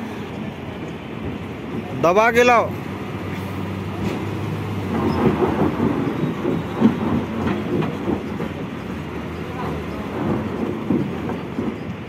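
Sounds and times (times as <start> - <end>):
truck diesel engine labouring: 0.0 - 12.0.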